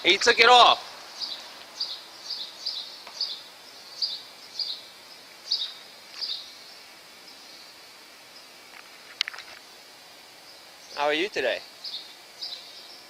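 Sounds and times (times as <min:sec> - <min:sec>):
bird chirping: 0:00.0 - 0:08.6, 0:10.4 - 0:13.0
faint street noise: 0:00.0 - 0:13.0.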